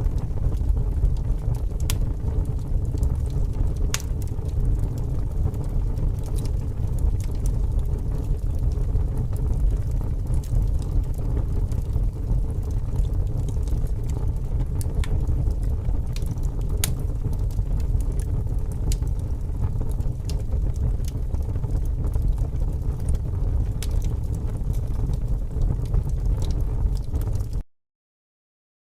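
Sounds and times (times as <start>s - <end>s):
wood fire crackling: 0.0s - 27.6s.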